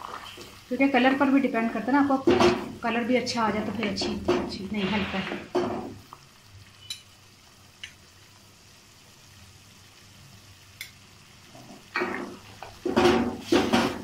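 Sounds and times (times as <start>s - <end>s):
syrup boiling in a pot: 0.0s - 4.1s, 5.4s - 14.0s.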